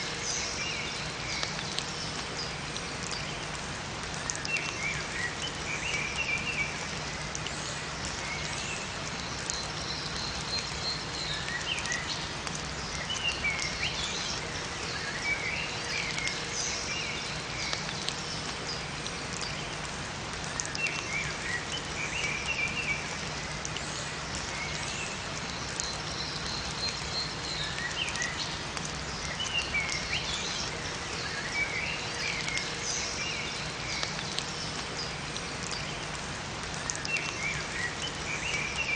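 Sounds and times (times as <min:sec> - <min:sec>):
rain falling: 0:00.0 - 0:38.9
songbirds chirping: 0:00.0 - 0:38.9.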